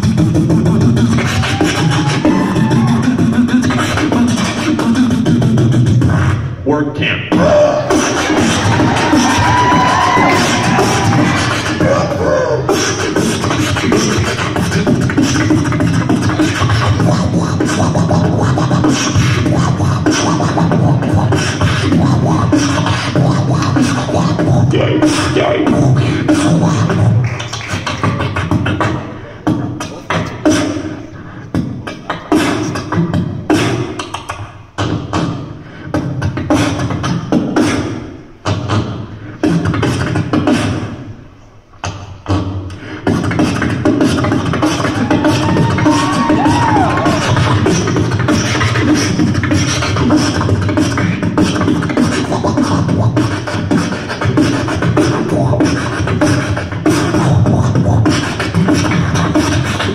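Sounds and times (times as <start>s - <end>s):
beatboxing through a microphone: 0.0s - 59.9s.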